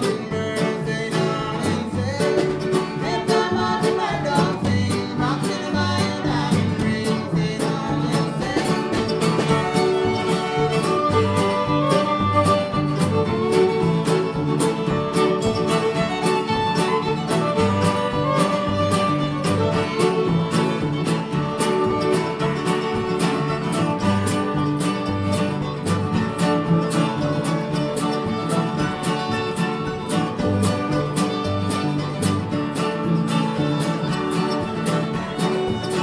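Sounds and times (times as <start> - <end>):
upbeat music with quick beat: 0.1 - 36.0.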